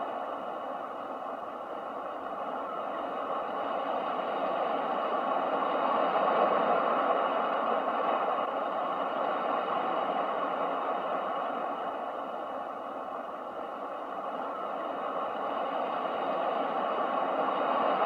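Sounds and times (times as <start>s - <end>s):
ocean waves washing: 0.0s - 18.0s.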